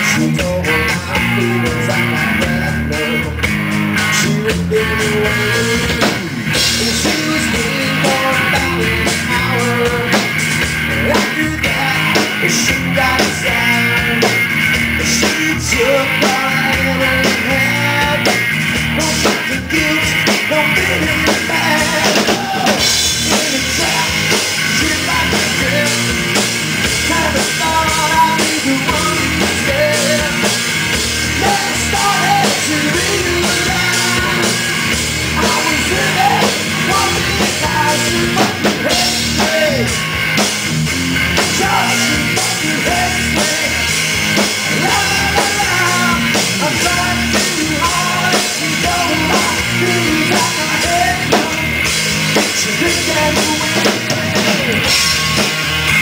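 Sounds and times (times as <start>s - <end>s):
electric guitar lead line: 0.0s - 56.0s
live rock band playing: 0.0s - 56.0s.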